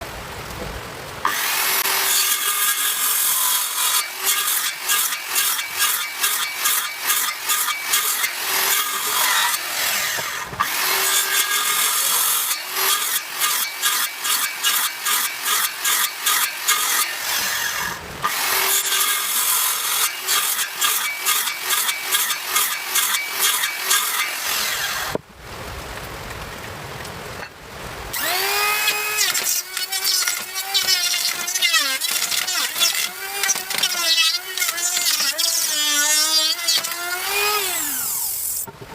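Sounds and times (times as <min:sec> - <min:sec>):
hand saw cutting wood: 0:01.2 - 0:25.2, 0:28.1 - 0:38.7.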